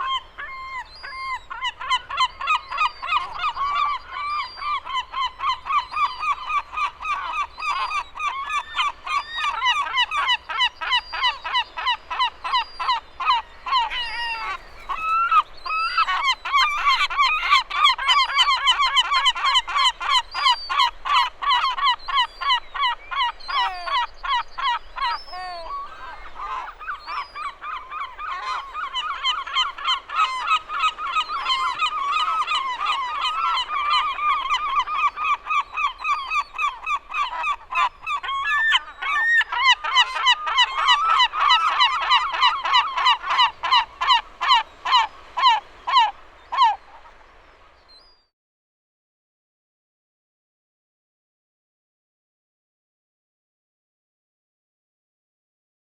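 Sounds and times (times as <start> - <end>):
gulls calling: 0.0 - 48.2.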